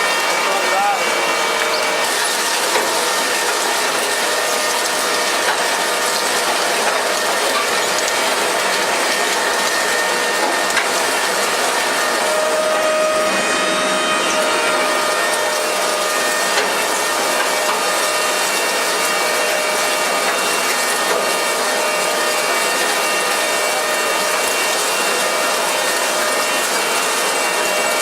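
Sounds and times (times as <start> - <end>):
refrigeration fan motor running: 0.0 - 28.0.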